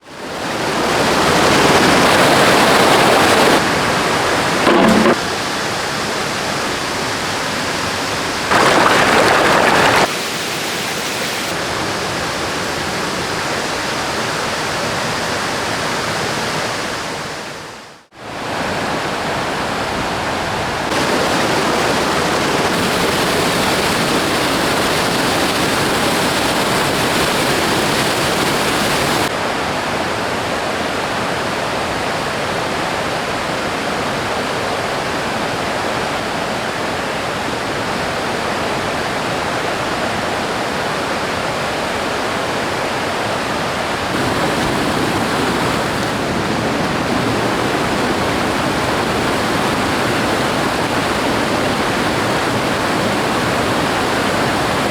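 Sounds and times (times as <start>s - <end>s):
rushing river water: 0.0s - 54.9s.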